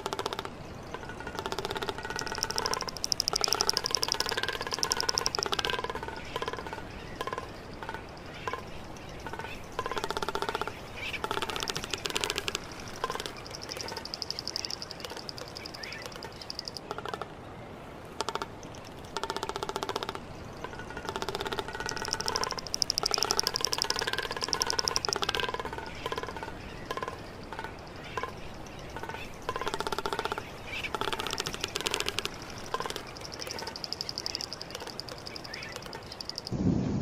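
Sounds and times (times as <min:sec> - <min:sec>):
bird rattling trilling calls: 0:00.0 - 0:17.2, 0:18.1 - 0:36.6.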